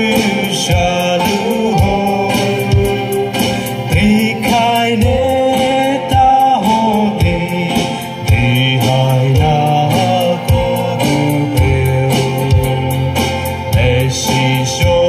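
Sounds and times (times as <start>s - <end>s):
acoustic guitar: 0.0s - 15.0s
electric keyboards: 0.0s - 15.0s
men singing: 0.0s - 15.0s
steady beat: 0.0s - 15.0s.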